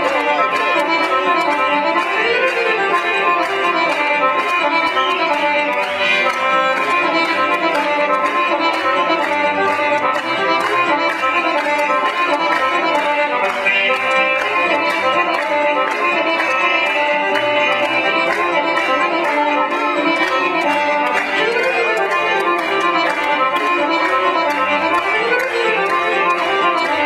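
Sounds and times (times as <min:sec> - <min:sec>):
folk music on accordion and violin: 0:00.0 - 0:27.0.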